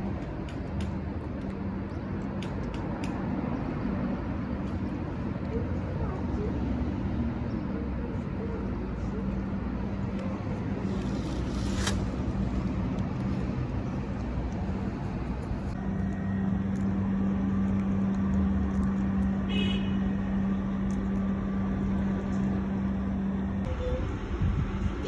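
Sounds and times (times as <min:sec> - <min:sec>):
traffic noise: 0:00.0 - 0:25.0
vehicle engine humming: 0:00.0 - 0:25.0.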